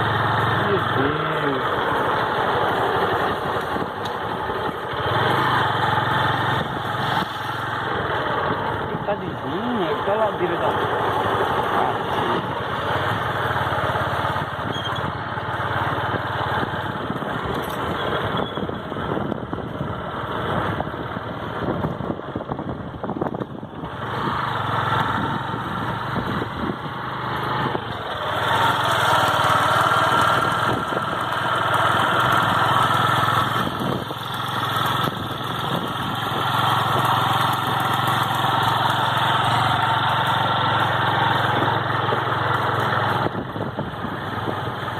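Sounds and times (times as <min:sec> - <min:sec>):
small motorcycle engine running: 0:00.0 - 0:44.9.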